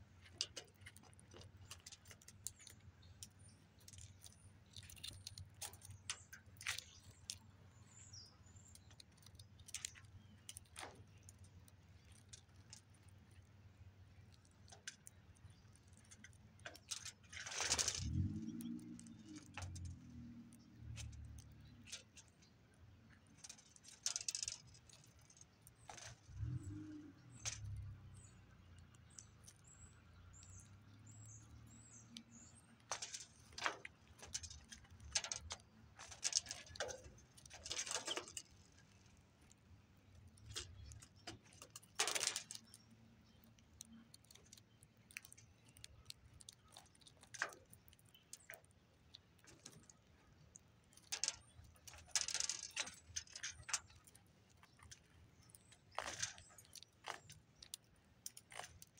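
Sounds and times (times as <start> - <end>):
seeds rattling as birds peck: 0.0 - 58.9.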